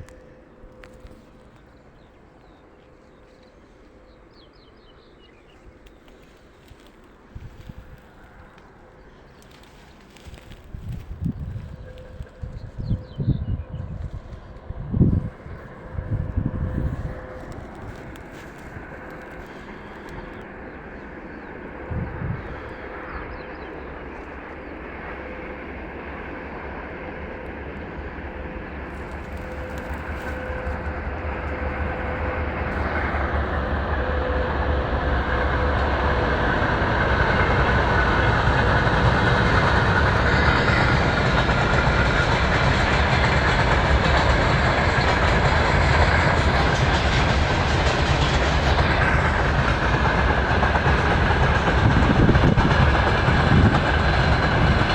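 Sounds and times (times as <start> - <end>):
train wheels clattering on rails: 5.8 - 21.8, 22.4 - 54.9.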